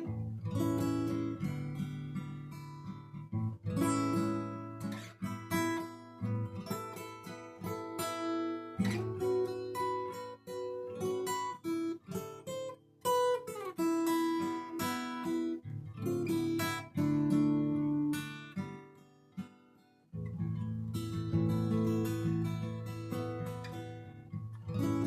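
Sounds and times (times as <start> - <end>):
acoustic guitar melody: 0.0 - 25.0.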